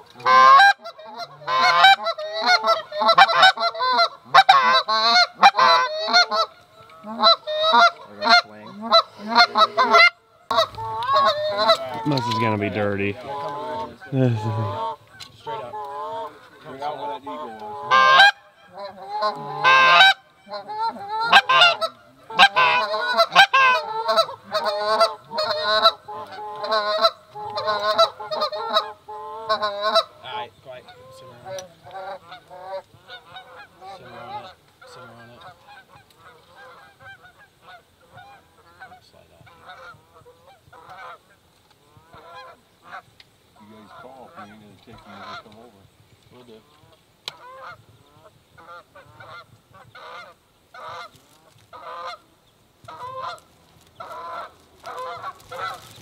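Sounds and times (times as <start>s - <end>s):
geese honking and clucking: 0.0s - 56.0s.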